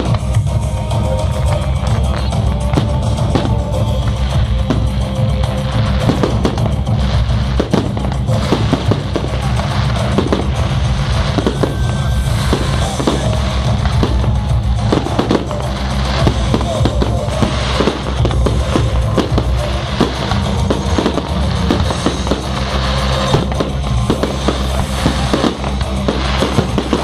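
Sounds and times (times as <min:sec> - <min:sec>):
fireworks bangs and crackles: 0:00.0 - 0:27.0
loud music with heavy bass: 0:00.0 - 0:27.0.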